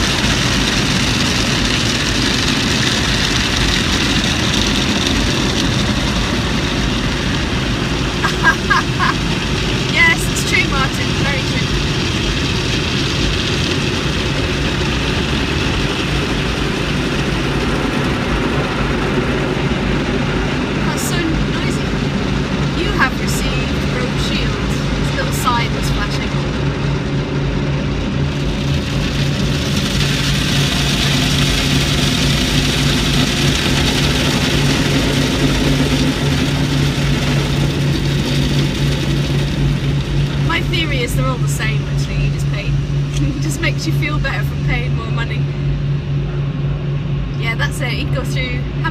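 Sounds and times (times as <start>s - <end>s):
car engine idling: 0.0s - 48.9s
car wash machinery rushing: 0.0s - 48.9s
low pulsing hum: 0.0s - 48.9s.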